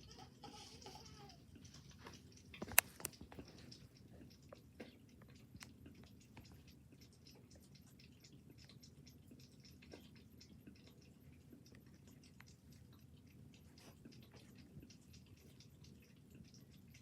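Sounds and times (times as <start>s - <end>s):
cat lapping water: 0.0s - 17.0s.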